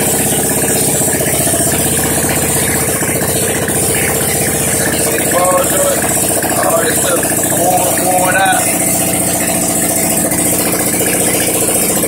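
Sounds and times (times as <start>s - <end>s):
go-kart engine idling: 0.0s - 12.0s.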